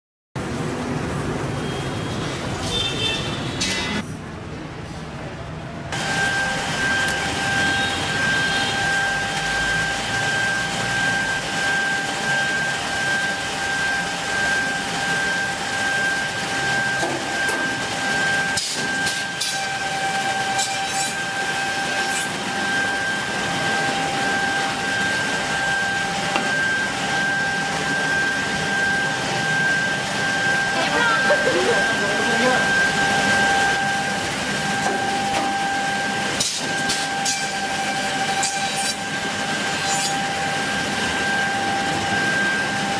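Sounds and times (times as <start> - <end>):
high machine whine: 0.4 - 42.9
machine mechanical hum: 0.4 - 42.9.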